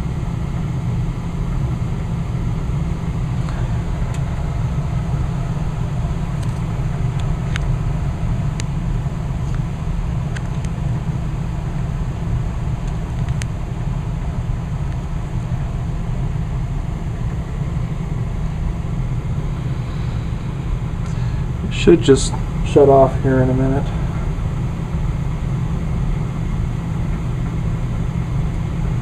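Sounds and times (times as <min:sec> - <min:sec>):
furnace blower fan hum: 0:00.0 - 0:29.0.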